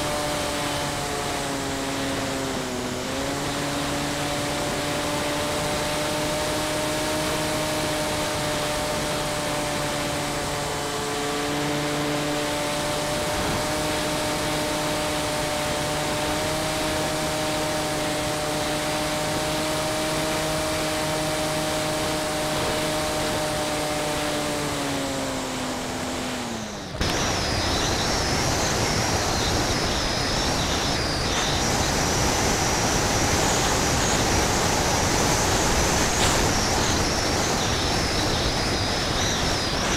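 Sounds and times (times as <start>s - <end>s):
faint wavering high whine: 0.0s - 39.9s
model airplane motor and propeller: 0.0s - 39.9s
rush of air over plane: 0.0s - 39.9s.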